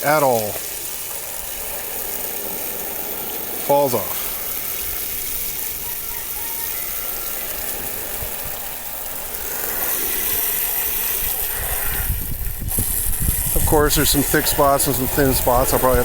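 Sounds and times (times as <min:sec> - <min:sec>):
hose spraying water on plastic: 0:00.0 - 0:16.0.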